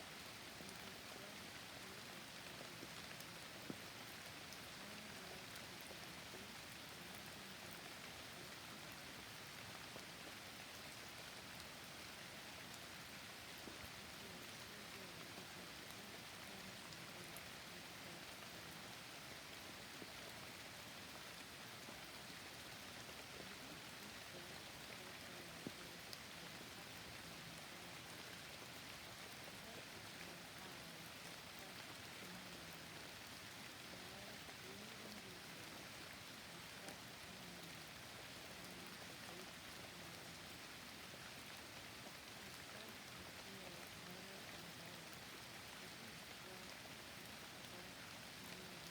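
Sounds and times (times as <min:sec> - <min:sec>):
faint rain falling: 0:00.0 - 0:48.9.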